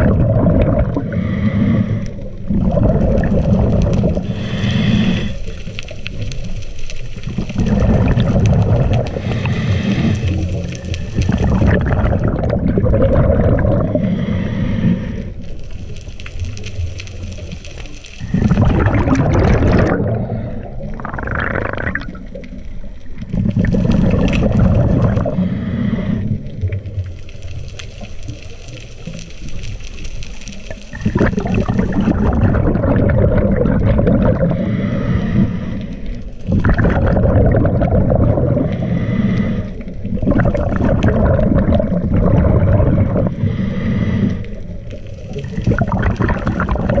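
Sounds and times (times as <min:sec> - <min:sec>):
diver exhaling bubbles underwater: 0:00.0 - 0:06.3, 0:07.2 - 0:15.3, 0:18.2 - 0:27.0, 0:30.6 - 0:35.8, 0:36.4 - 0:47.0.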